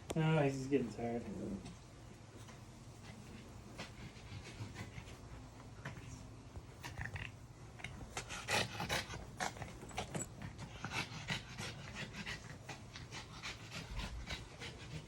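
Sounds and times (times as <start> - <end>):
dog panting: 2.4 - 15.0.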